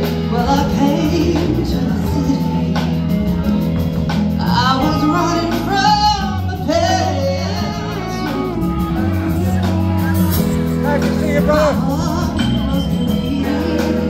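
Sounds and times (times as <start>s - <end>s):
live band playing: 0.0s - 14.0s
woman singing lead vocal: 0.0s - 14.0s.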